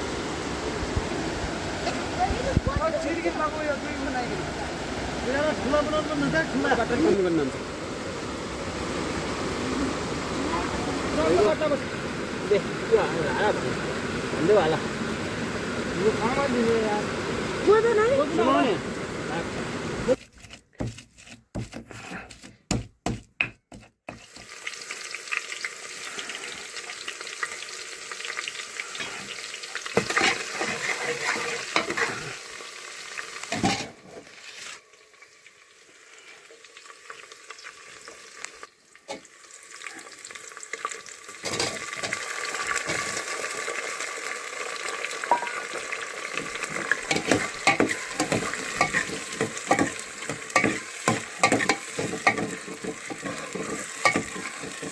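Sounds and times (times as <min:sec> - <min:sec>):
food sizzling in a pan: 0:00.0 - 0:20.2, 0:24.1 - 0:54.9.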